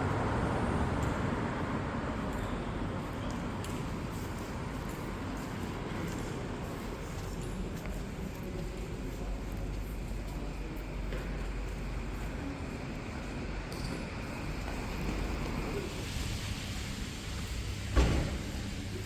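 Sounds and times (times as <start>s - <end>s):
faint voices of passers-by: 0.0s - 19.0s
traffic rumble: 0.0s - 19.0s.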